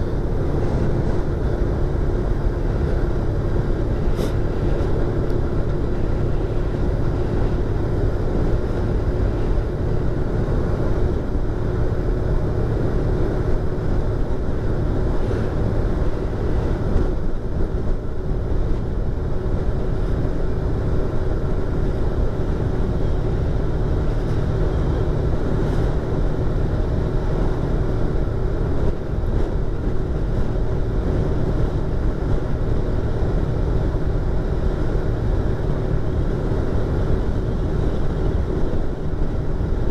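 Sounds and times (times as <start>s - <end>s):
riding wind rushing: 0.0s - 39.9s.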